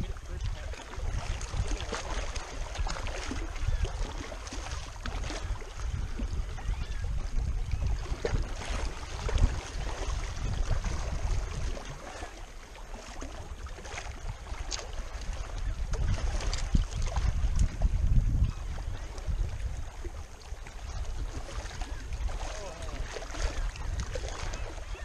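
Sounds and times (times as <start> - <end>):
small waves lapping on rocks: 0.0 - 25.0
wind buffeting microphone: 0.0 - 25.0.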